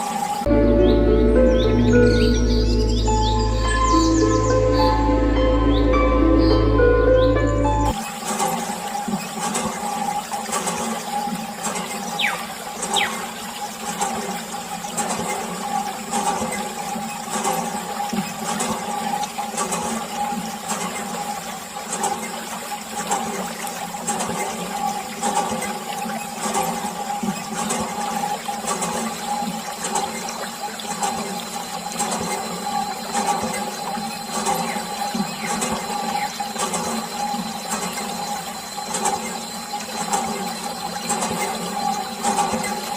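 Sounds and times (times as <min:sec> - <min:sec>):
water pump humming: 0:00.0 - 0:42.9
water spraying and splashing: 0:07.9 - 0:42.9.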